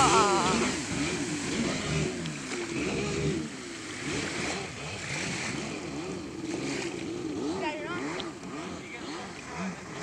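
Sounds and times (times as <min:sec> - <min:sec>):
jet ski engine running: 0:00.0 - 0:10.0.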